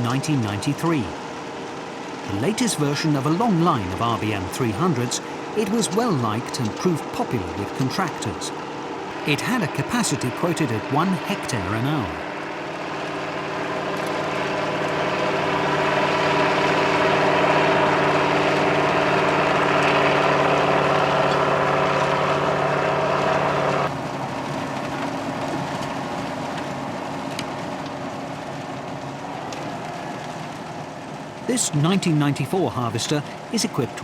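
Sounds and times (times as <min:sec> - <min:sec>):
harvester engine running: 0:00.0 - 0:34.0.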